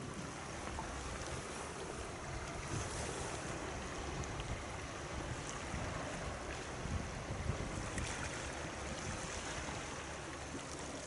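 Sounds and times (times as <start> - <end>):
sea waves washing: 0.0 - 11.0
wind on microphone: 0.0 - 11.0.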